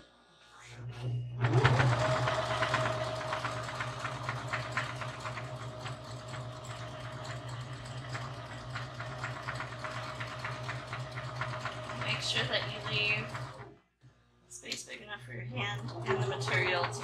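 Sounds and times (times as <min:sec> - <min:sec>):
sewing machine motor whining: 0:01.4 - 0:13.8, 0:15.6 - 0:17.0.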